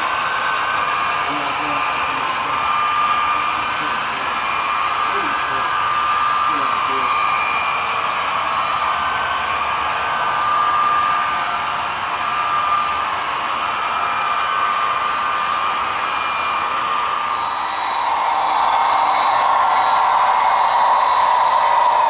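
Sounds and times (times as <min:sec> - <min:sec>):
model train whirring: 0:00.0 - 0:22.0.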